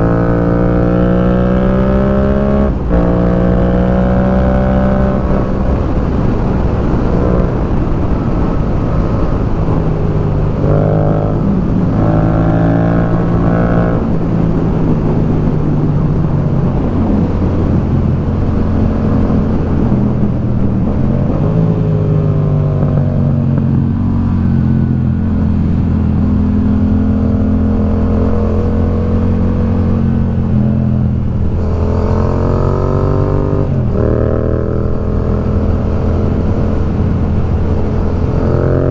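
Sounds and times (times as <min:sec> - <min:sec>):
wind rushing: 0:00.0 - 0:38.9.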